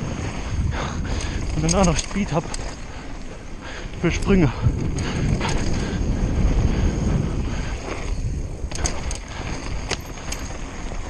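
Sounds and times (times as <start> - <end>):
bike tyres and frame rattling: 0.0 - 11.0
wind rushing over microphone: 0.0 - 11.0.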